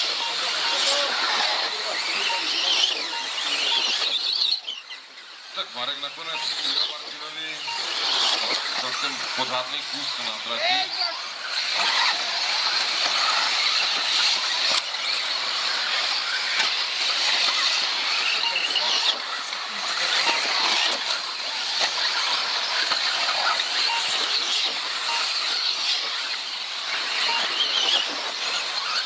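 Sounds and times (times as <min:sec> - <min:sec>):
radio-controlled car motors whining: 0:00.0 - 0:29.0.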